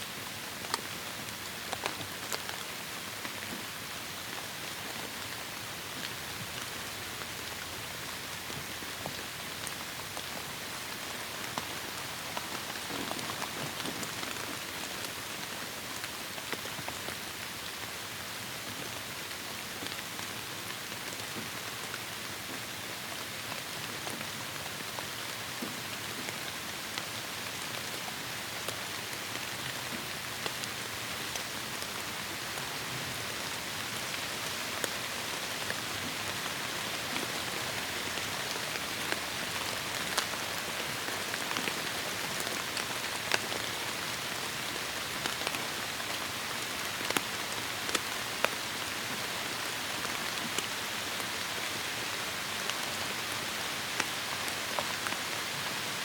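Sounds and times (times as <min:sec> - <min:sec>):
heavy rain on foliage: 0:00.0 - 0:56.0
raindrops ticking on surfaces: 0:00.2 - 0:56.0.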